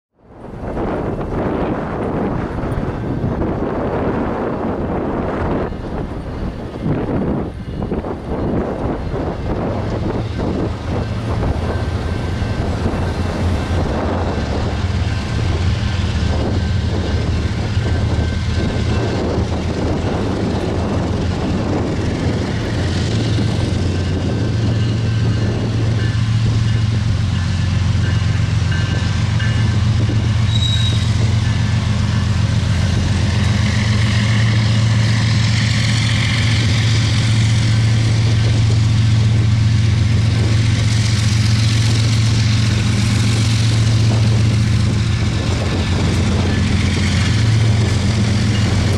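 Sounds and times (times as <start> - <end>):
diesel locomotive engine droning: 0.2 - 48.9.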